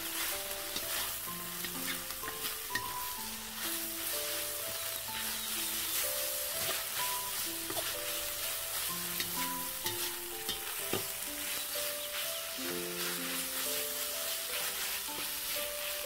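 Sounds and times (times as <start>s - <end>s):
food sizzling in a wok: 0.0s - 16.0s
metal spatula scraping wok: 0.0s - 16.0s
soft background music: 0.0s - 16.0s.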